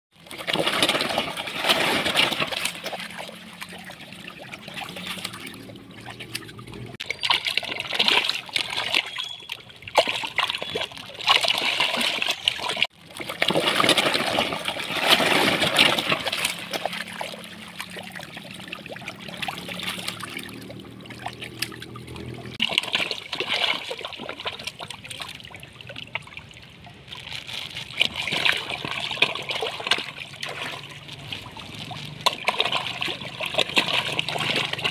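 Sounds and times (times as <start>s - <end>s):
fish splashing in water: 0.2s - 34.9s.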